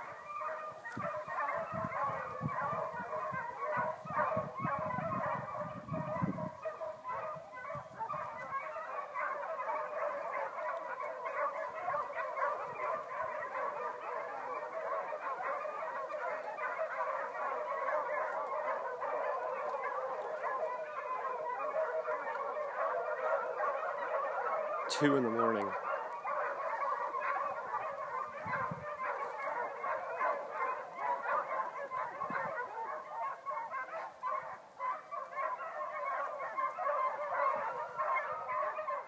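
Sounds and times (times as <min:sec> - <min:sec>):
distant dogs barking: 0:00.0 - 0:39.0.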